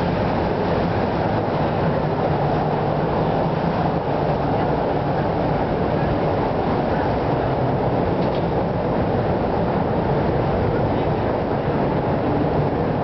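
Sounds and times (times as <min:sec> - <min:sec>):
motorboat engines rumbling: 0:00.0 - 0:13.0
water wash: 0:00.0 - 0:13.0.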